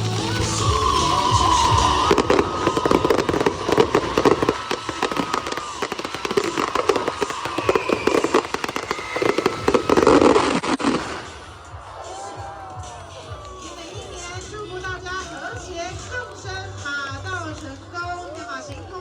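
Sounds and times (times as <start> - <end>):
fireworks popping and banging: 0.0 - 18.9.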